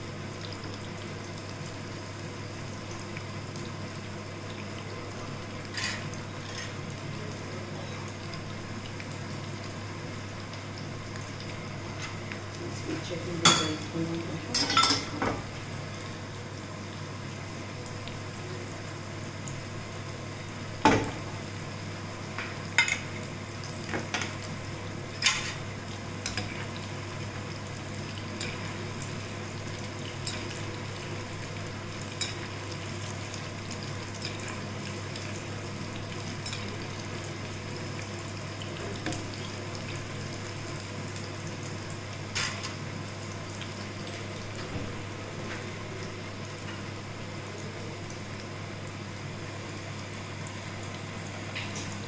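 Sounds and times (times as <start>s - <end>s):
food deep-frying in oil: 0.0s - 52.0s.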